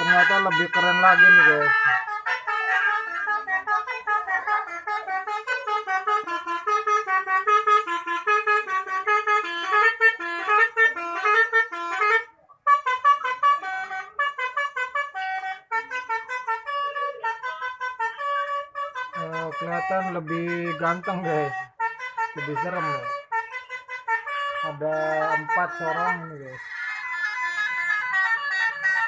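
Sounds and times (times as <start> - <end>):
bus horn playing a tune: 0.0 - 26.6, 27.8 - 29.0.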